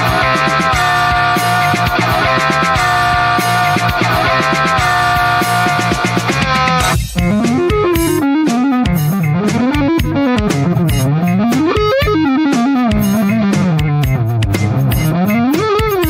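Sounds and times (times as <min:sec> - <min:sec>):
rock guitar solo: 0:00.0 - 0:14.3.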